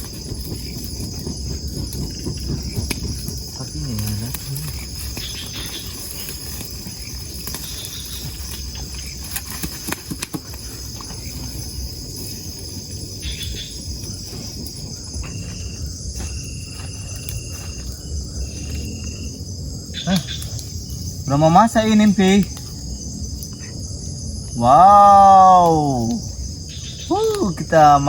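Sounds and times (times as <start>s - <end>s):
crickets trilling: 0.0s - 28.0s
lower-pitched insect trill: 0.0s - 28.0s.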